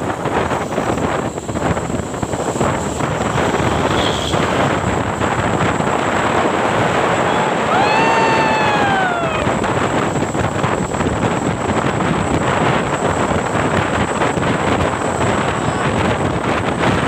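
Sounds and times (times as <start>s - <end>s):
road and vehicle noise: 0.0s - 17.0s
wind buffeting microphone: 0.0s - 17.0s.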